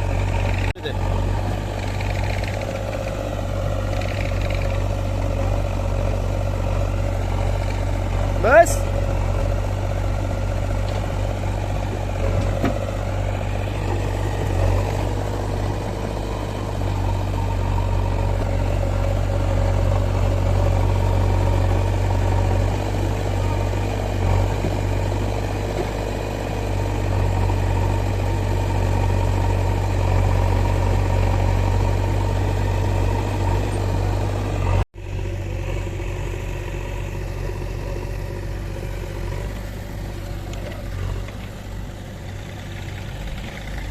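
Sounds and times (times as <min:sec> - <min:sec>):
diesel engines humming: 0:00.0 - 0:43.9.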